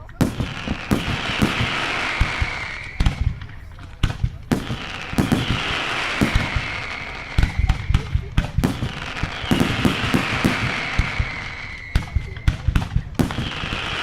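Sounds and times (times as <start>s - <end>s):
firework hissing whistle: 0.0s - 3.8s, 4.6s - 14.0s
fireworks bangs: 0.0s - 14.0s.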